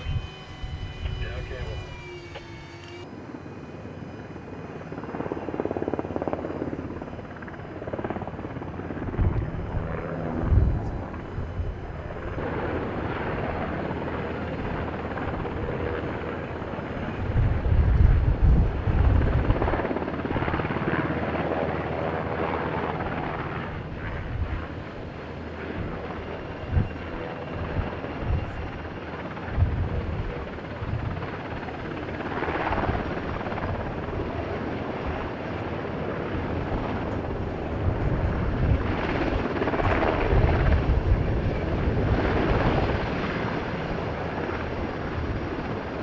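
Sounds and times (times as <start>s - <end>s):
wind gusting against microphone: 0.0s - 46.0s.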